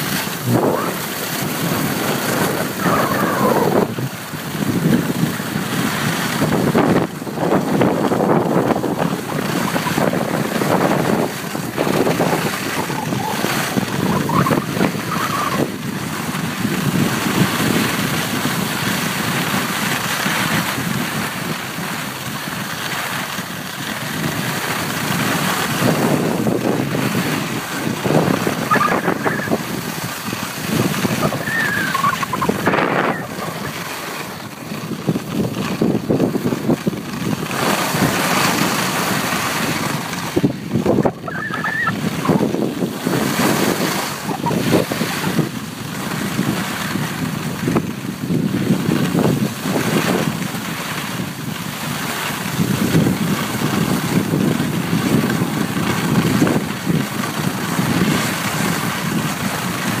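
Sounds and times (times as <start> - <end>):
skis scraping on snow: 0.0 - 60.0
wind on microphone: 0.0 - 60.0.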